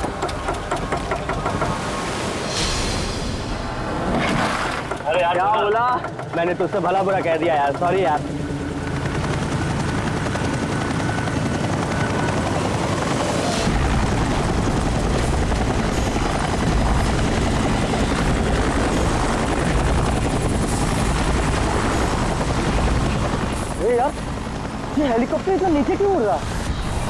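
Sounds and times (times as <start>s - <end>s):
helicopter flying past: 4.9s - 27.0s.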